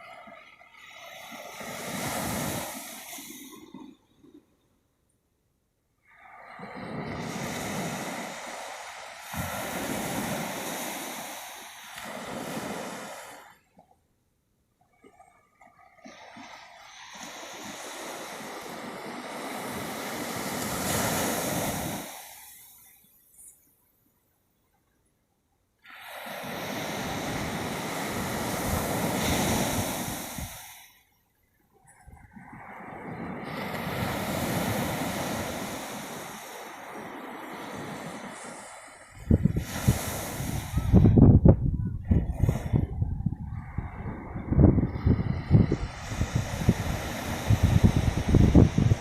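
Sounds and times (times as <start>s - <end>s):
ocean wave washing in: 0.0s - 4.5s, 6.0s - 13.9s, 15.0s - 23.2s, 25.9s - 31.1s, 32.0s - 49.0s.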